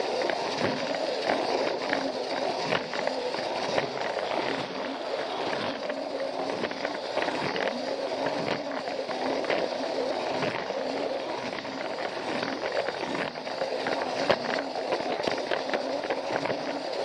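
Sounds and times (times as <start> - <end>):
toy train motor whirring: 0.0 - 17.0.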